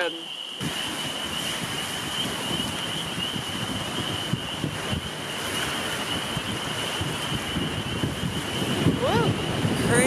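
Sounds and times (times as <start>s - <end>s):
wind buffeting microphone: 0.6s - 10.0s.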